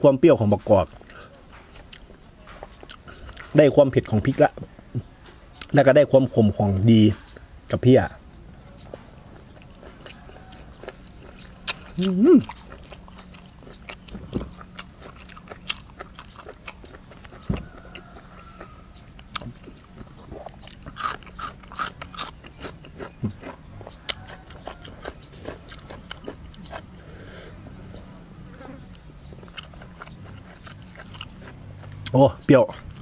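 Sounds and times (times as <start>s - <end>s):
person chewing with wet smacks: 0.6s - 4.7s, 8.7s - 27.0s, 28.6s - 33.0s.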